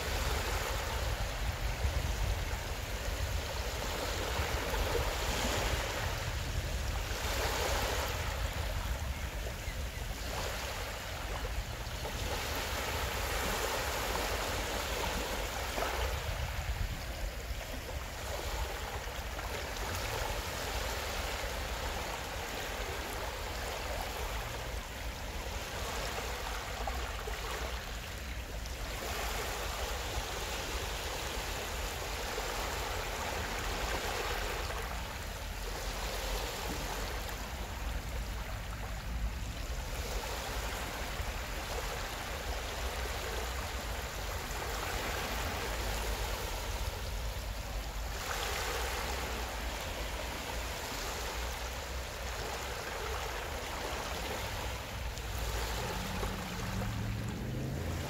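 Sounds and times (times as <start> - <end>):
small waves washing over sand: 0.0 - 58.0.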